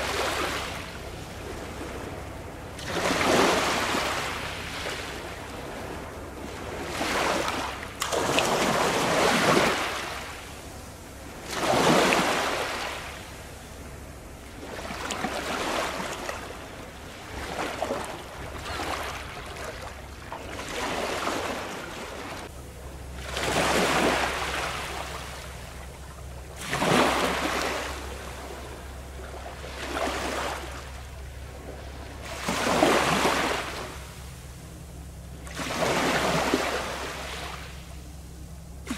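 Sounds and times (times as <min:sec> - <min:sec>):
small waves breaking on shore: 0:00.0 - 0:34.8, 0:35.4 - 0:38.9.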